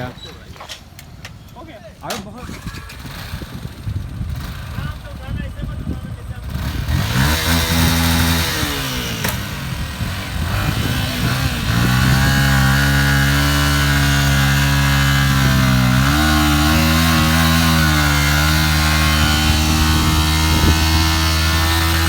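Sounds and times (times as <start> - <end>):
vehicle engine running: 2.5 - 22.0.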